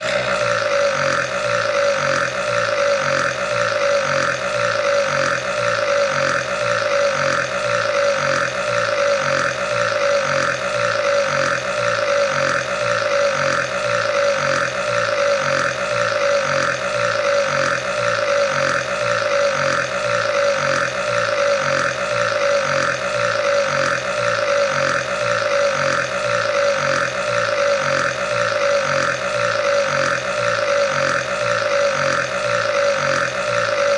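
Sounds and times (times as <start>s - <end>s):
long burp: 0.0s - 33.9s.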